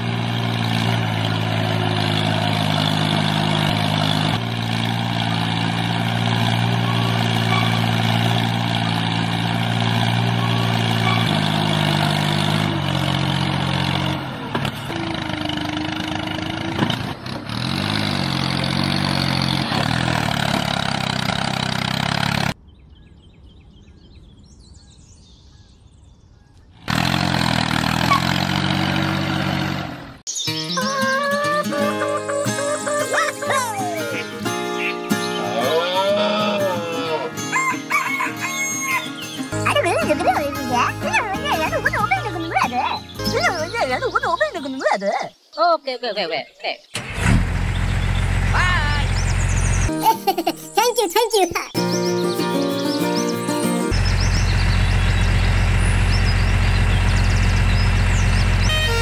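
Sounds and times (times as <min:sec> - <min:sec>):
tractor engine running: 0:00.0 - 0:22.6, 0:26.7 - 0:44.8, 0:46.9 - 0:50.4, 0:51.8 - 0:59.0.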